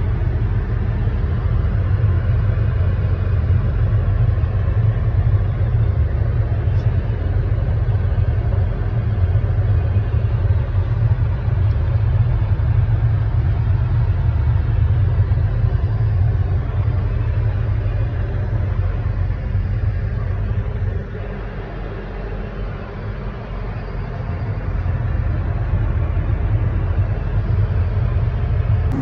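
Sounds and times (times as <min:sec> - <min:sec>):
airliner cabin rumble: 0:00.0 - 0:29.0.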